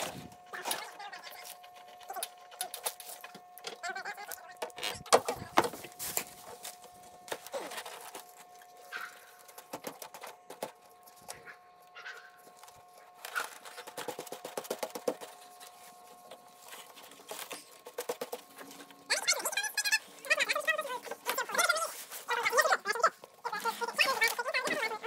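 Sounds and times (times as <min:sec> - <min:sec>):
faint steady whine: 0:00.0 - 0:25.0.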